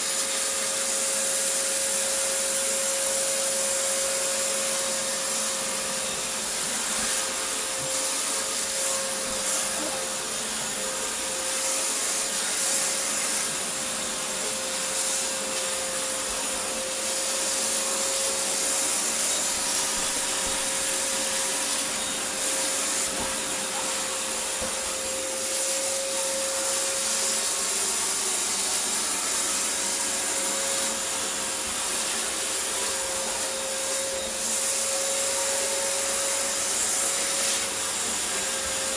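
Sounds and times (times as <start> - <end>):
floor cleaner motor whine: 0.0 - 38.9.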